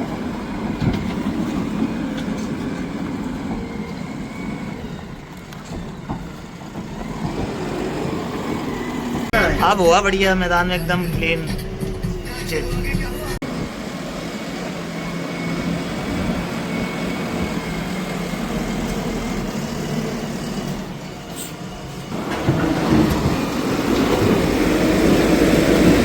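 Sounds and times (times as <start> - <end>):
backhoe diesel engine running: 0.0 - 26.0.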